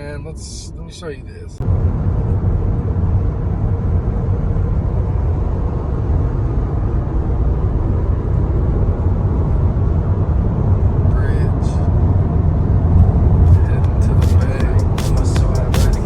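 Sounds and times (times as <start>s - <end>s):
car driving at highway speed: 1.6s - 16.0s.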